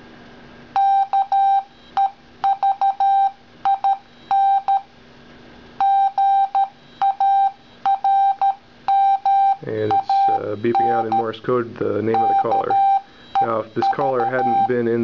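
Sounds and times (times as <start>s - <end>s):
morse code beep tone: 0.8s - 4.9s, 5.8s - 15.0s.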